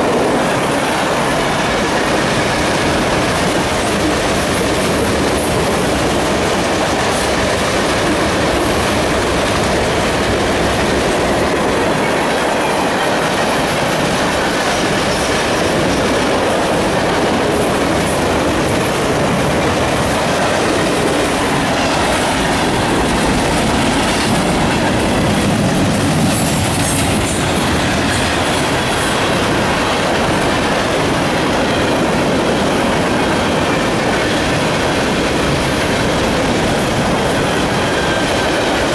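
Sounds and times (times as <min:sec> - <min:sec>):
freight train wheels on rails: 0:00.0 - 0:38.9.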